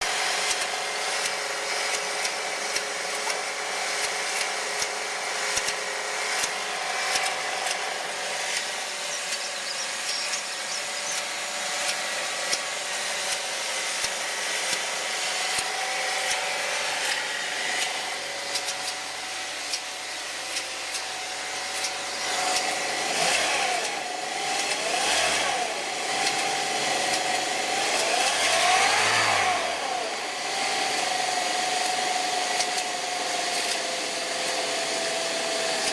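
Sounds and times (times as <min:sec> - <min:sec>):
car engine running: 0:00.0 - 0:33.9
irregular engine clicking: 0:00.0 - 0:35.9.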